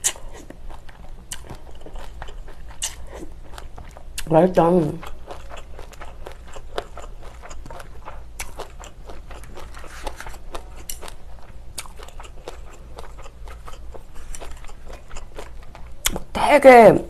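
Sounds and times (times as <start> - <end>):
wet chewing with crunches: 0.0 - 16.4.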